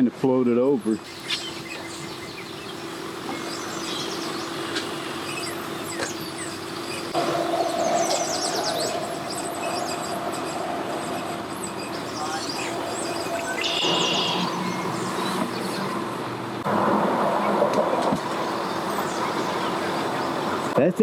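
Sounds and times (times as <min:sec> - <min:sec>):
birds chirping: 0:00.6 - 0:16.7, 0:17.3 - 0:20.8
engine humming drone: 0:00.8 - 0:20.8.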